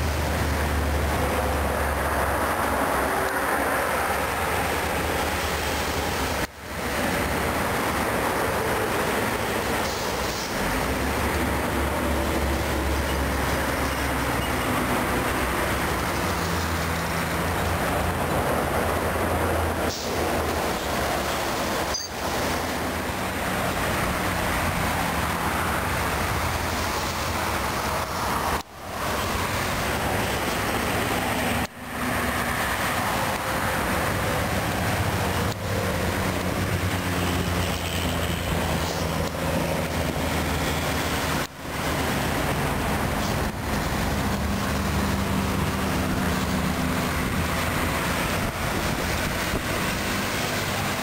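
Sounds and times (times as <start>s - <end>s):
highway traffic passing: 0.0s - 51.0s.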